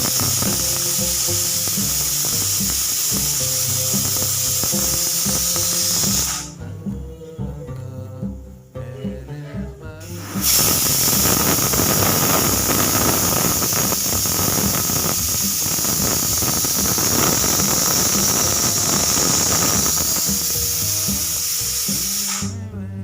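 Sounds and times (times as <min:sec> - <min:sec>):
pressure cooker whistle hissing: 0:00.0 - 0:06.6, 0:10.0 - 0:22.6.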